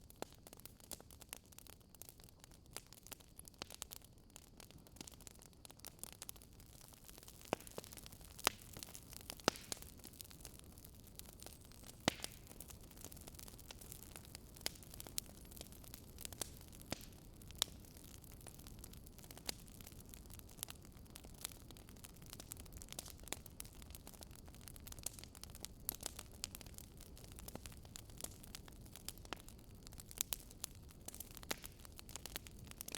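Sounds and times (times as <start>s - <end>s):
fireplace fire crackling: 0.0s - 32.9s.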